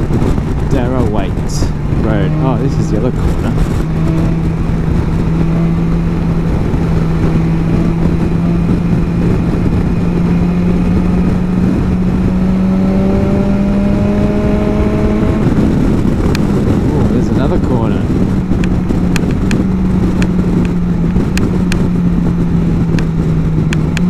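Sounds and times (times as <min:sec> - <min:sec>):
motorcycle engine climbing in pitch: 0:00.0 - 0:24.0
wind and road noise: 0:00.0 - 0:24.0.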